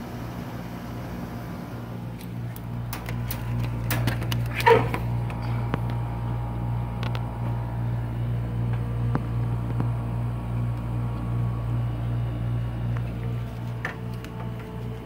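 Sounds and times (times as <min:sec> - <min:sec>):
window air conditioner humming: 0:00.0 - 0:15.0.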